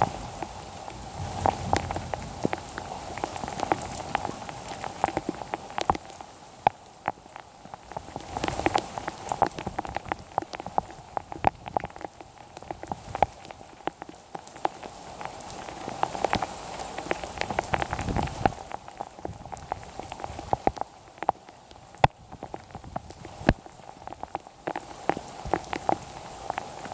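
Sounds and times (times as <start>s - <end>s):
heavy rain falling: 0.0s - 26.9s
raindrops tapping close by: 0.0s - 26.9s.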